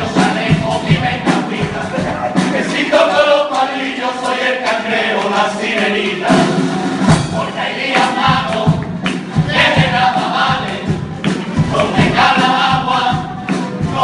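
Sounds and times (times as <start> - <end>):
men singing in unison: 0.0 - 11.0, 11.6 - 14.0
percussive beats: 0.0 - 14.0.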